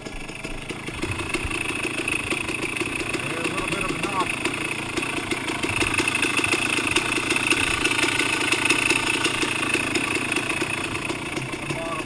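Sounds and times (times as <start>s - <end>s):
engine idling: 0.0s - 12.0s
rapid even engine knocking: 0.0s - 12.0s.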